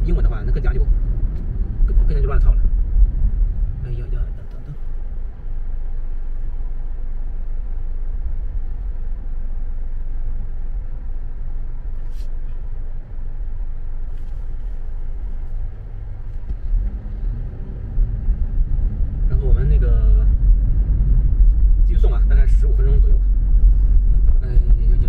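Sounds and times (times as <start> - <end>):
car cabin road and engine rumble: 0.0 - 25.0.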